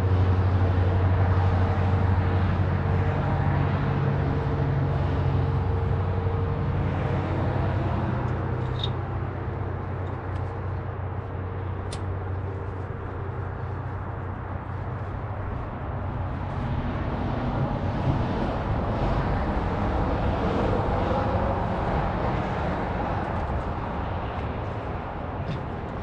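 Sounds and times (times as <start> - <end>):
vehicle engine low hum: 0.0 - 26.0.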